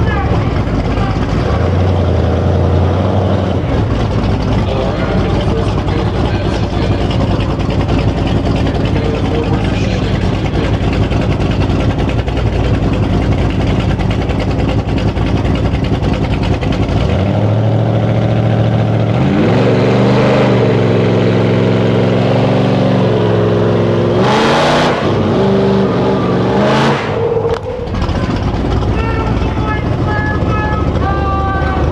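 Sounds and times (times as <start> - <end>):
truck engines straining: 0.0 - 31.9.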